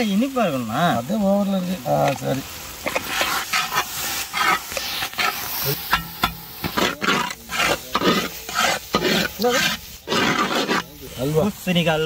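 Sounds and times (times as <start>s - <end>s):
light sizzle of ghee: 0.0s - 12.0s
metal spatula scraping a pan: 1.7s - 11.6s.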